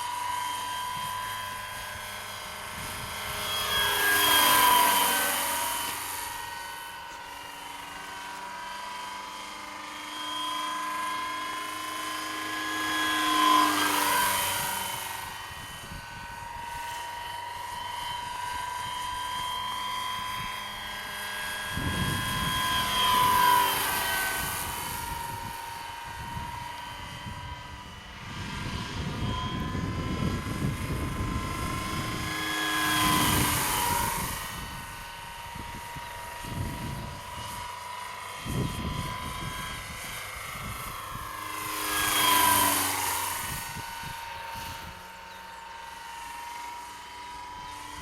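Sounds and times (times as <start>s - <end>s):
helicopter rotor noise: 0.0s - 48.0s
rc helicopter motor whine: 0.0s - 48.0s.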